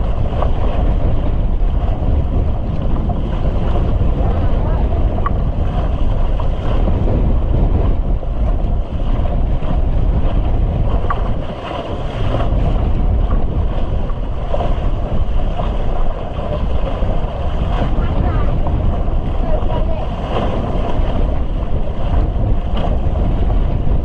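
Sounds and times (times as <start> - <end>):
rushing water and waves: 0.0 - 24.0
strong wind buffeting microphone: 0.0 - 24.0.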